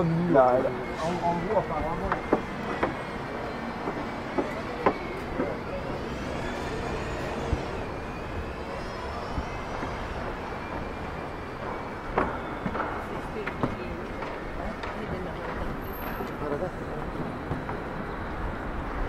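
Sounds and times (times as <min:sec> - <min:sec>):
passing vehicle whine: 0:00.0 - 0:19.0
road traffic rumble: 0:00.0 - 0:19.0.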